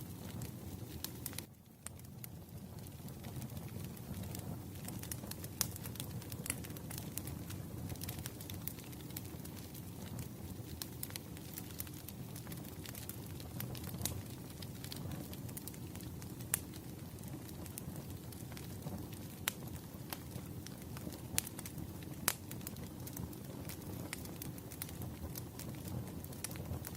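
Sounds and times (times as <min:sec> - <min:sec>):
loud fire pops: 0:00.0 - 0:26.9
wood fire crackling: 0:00.0 - 0:26.9.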